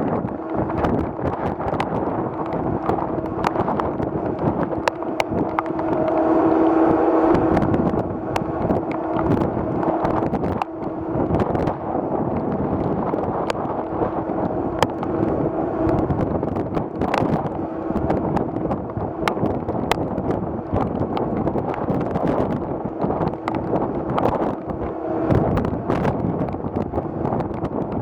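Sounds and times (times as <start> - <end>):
steady low hum: 0.0 - 28.0
wind buffeting microphone: 0.0 - 28.0.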